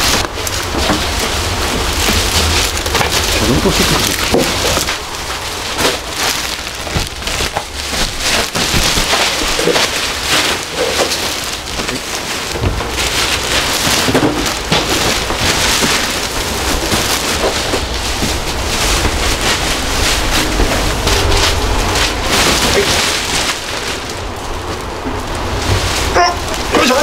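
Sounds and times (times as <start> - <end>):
dull thumps of bedding: 0.0 - 24.0
plastic bag rustling: 0.0 - 27.0.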